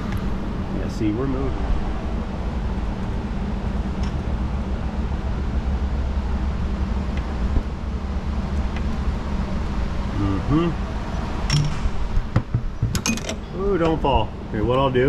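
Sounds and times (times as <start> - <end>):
shop background hum and hiss: 0.0 - 15.0.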